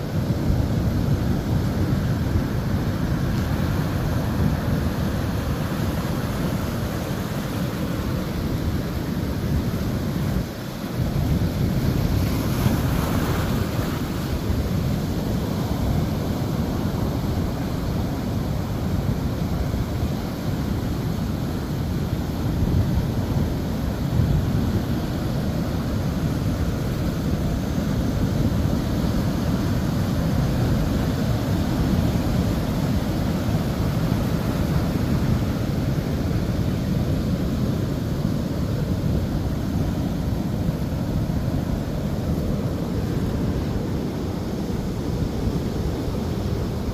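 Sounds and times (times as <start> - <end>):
ocean surf breaking: 0.0 - 46.9.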